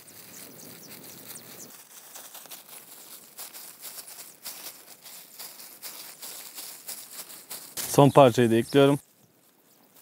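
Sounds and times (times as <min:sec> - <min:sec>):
plastic glove crinkling: 0:00.0 - 0:08.1.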